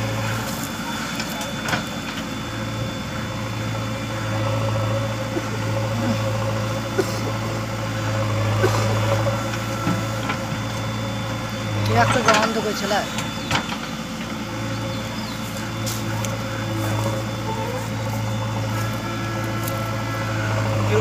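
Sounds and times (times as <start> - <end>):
backhoe digging soil: 0.0 - 21.0
diesel engine running: 0.0 - 21.0.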